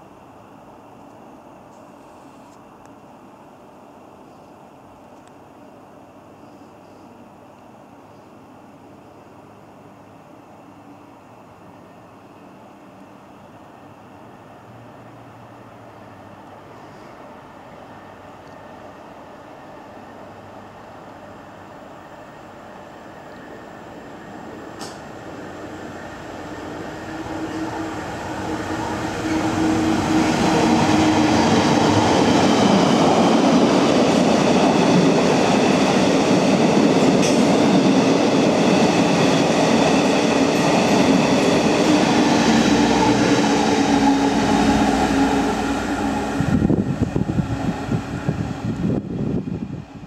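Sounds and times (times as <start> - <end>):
diesel locomotive engines: 0.0 - 50.0.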